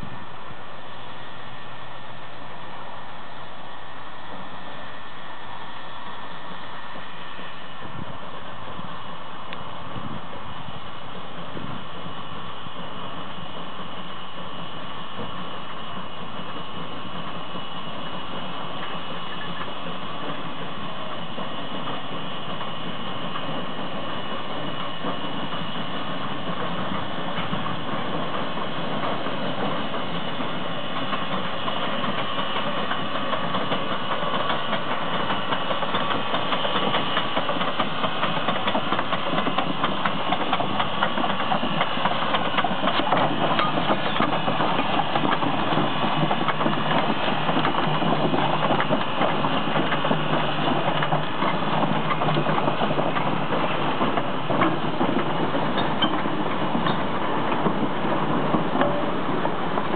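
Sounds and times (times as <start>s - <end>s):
steam locomotive exhaust chuffs: 0.0s - 59.9s
wheels clattering on rail: 6.6s - 59.9s.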